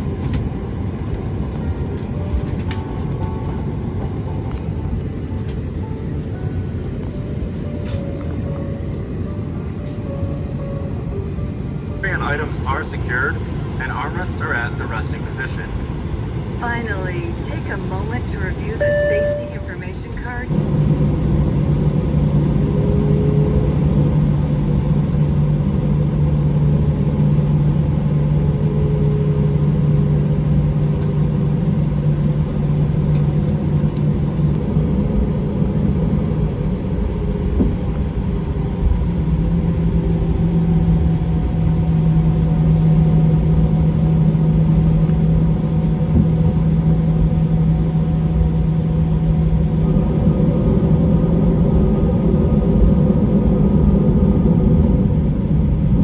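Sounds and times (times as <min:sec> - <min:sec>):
jet cabin engine rumble: 0:00.0 - 0:56.0
low hum: 0:00.0 - 0:56.0.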